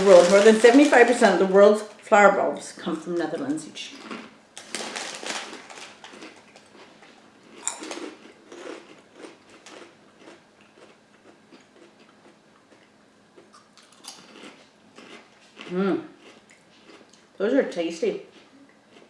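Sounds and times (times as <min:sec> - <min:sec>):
person crunching a snack: 0:00.0 - 0:01.3, 0:03.9 - 0:17.3, 0:18.4 - 0:19.0.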